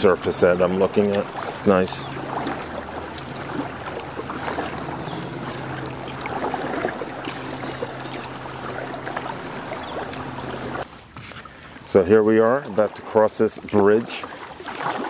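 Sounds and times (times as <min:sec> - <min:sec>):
small splashes: 0:00.0 - 0:11.9, 0:12.6 - 0:15.0
kayak paddle strokes: 0:00.0 - 0:12.0, 0:12.6 - 0:15.0
water trickling off paddle: 0:00.0 - 0:15.0.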